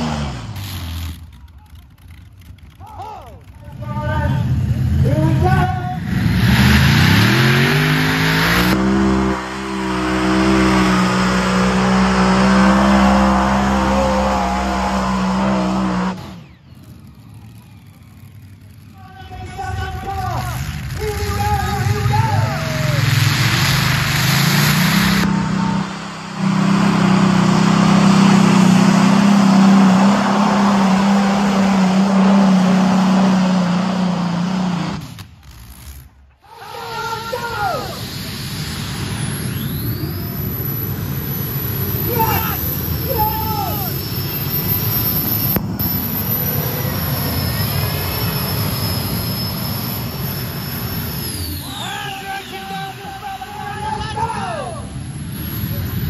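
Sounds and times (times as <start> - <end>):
tractor engine at full throttle: 0.0 - 36.4, 38.0 - 56.0.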